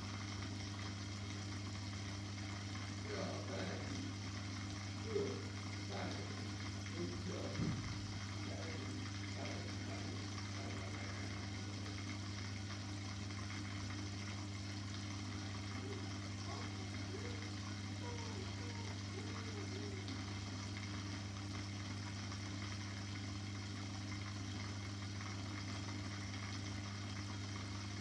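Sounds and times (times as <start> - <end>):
aquarium pump humming: 0.0 - 28.0.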